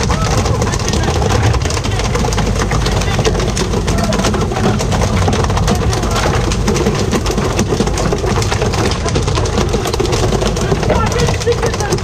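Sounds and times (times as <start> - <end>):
boat engine running: 0.0 - 12.0
splashes and knocks: 0.0 - 12.0.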